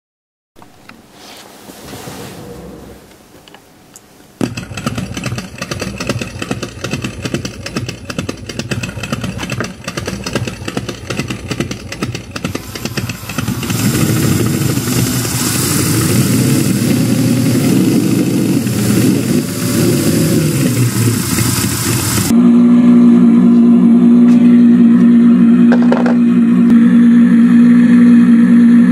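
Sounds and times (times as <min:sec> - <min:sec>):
engine starting and running: 0:04.4 - 0:28.9.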